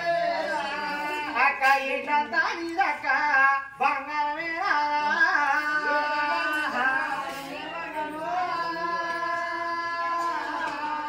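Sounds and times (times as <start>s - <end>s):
person singing devotional folk song: 0.0s - 11.0s.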